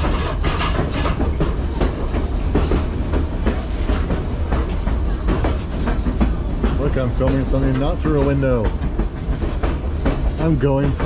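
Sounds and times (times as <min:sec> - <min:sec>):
train rumbling along track: 0:00.0 - 0:11.0
wheels clacking and rattling: 0:00.0 - 0:11.0.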